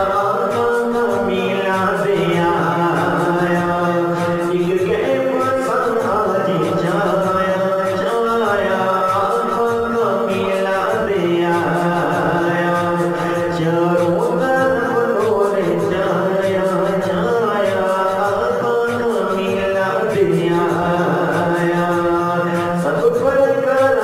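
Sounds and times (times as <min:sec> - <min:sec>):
person singing devotional song: 0:00.0 - 0:24.0
steady low beat: 0:00.0 - 0:24.0.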